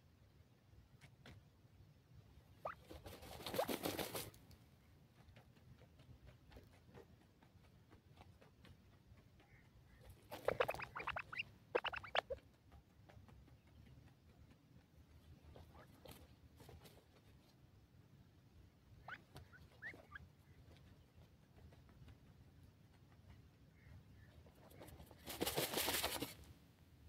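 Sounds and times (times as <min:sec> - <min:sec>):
birds rustling in dirt: 0:00.8 - 0:26.7.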